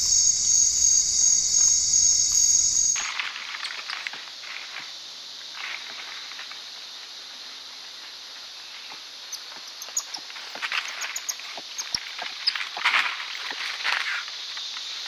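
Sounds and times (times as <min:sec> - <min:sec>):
forest insects chorus: 0:00.0 - 0:15.0.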